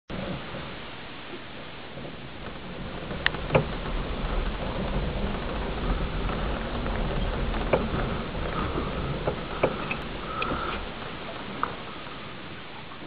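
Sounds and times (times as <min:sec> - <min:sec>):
car engine and road rumble: 0:00.1 - 0:13.0
knocks and rattles over bumps: 0:01.6 - 0:12.4.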